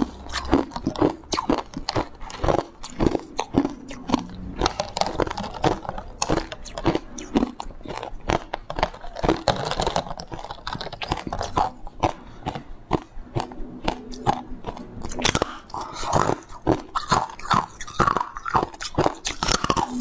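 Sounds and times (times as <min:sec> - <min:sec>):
chewing ice pieces: 0:00.0 - 0:20.0.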